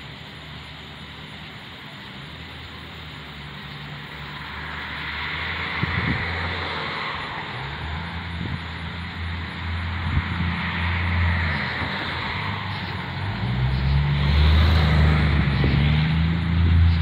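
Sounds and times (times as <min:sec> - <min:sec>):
crickets and katydids chirping: 0:00.0 - 0:17.0
low engine-like hum: 0:00.0 - 0:17.0.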